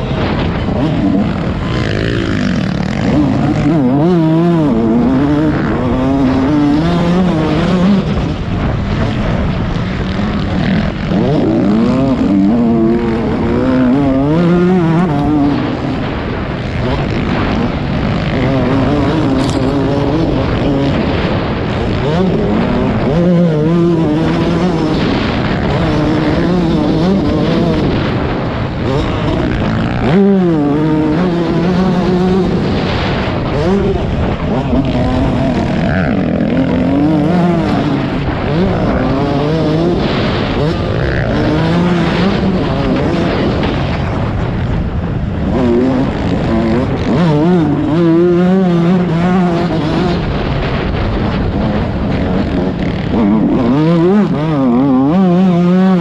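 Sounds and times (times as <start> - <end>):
motorcycle engine revving: 0.0 - 56.0
track noise: 0.0 - 56.0
wind noise: 0.0 - 56.0.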